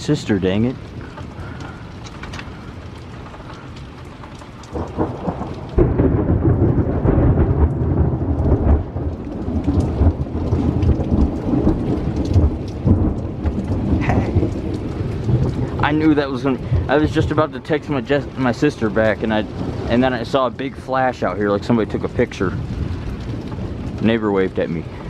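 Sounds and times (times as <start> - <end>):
storm noise: 0.0 - 25.0
thunder rumbling: 0.0 - 25.0.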